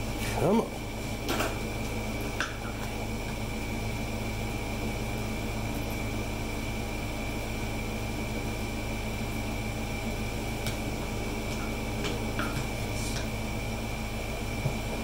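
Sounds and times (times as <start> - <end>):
fan machine humming: 0.0 - 15.0.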